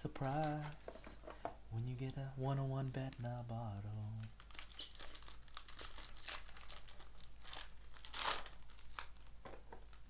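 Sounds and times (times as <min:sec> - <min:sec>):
card pack wrapper crinkling: 0:00.0 - 0:01.0, 0:02.6 - 0:10.0.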